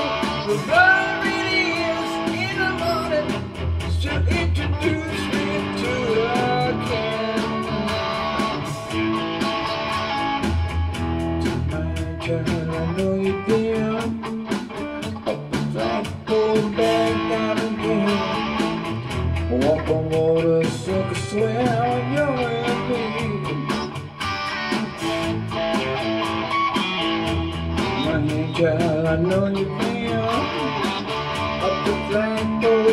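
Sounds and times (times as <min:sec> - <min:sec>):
bass line: 0:00.0 - 0:32.9
electric guitar solo: 0:00.0 - 0:32.9
steady drum beat: 0:00.0 - 0:32.9.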